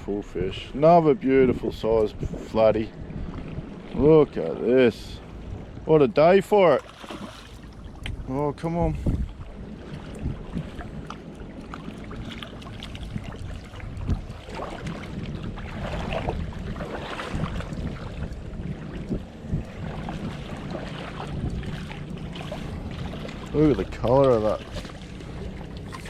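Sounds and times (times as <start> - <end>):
river water splashing: 0.0 - 26.0
wind rumble on microphone: 0.0 - 26.0.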